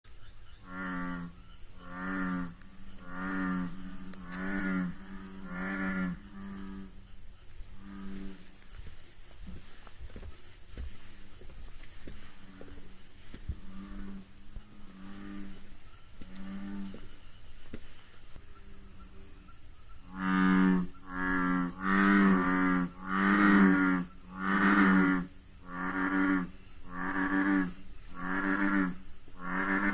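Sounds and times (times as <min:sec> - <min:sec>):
quiet steady tone: 0:00.0 - 0:29.9.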